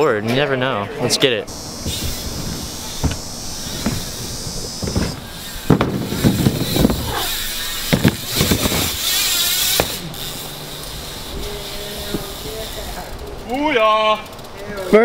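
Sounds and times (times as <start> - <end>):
wheels thumping on ramps: 1.5 - 13.6
bike tyres rolling: 1.5 - 15.0.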